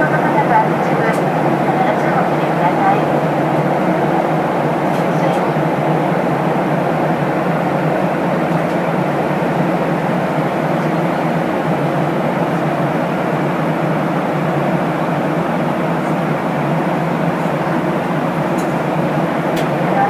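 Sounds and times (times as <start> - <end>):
airliner cabin noise: 0.0 - 20.0.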